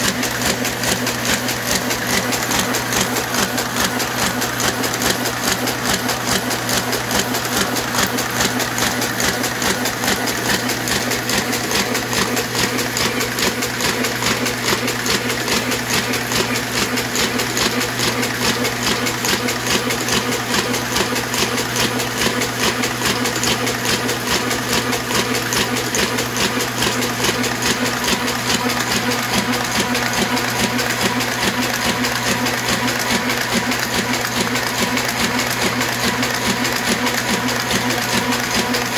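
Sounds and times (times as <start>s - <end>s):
printing press clattering: 0.0s - 38.9s.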